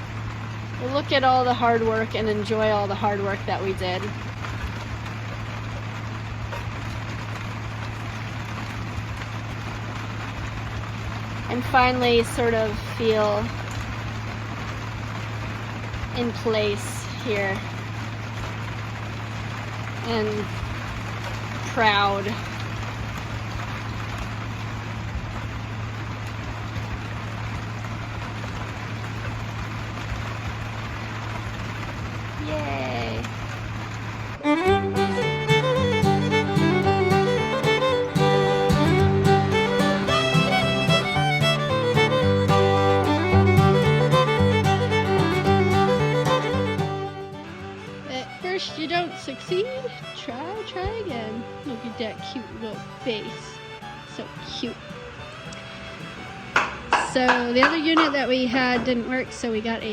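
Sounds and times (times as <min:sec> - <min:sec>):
background hiss: 0:00.0 - 0:59.9
heavy rain on boat deck: 0:00.0 - 0:59.9
low mechanical hum: 0:00.0 - 0:59.9.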